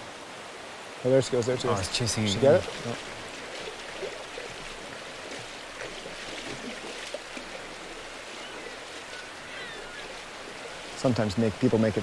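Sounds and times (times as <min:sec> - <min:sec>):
river running over rocks: 0:00.0 - 0:12.0.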